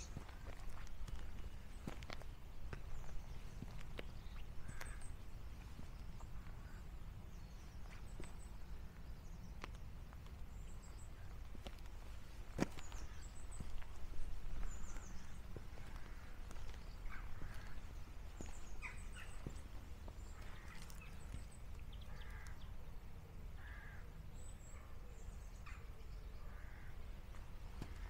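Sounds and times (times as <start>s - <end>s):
harsh low bird calls: 0.0s - 23.0s
steady low rumble: 0.0s - 23.6s
birds chirping: 0.0s - 28.0s.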